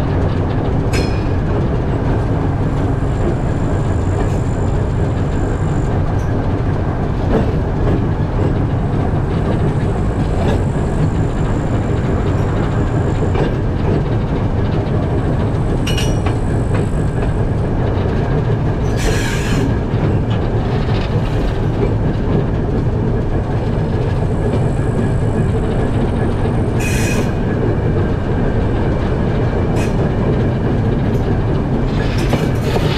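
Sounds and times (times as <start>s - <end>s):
freight train wheels rumbling: 0.0s - 32.9s.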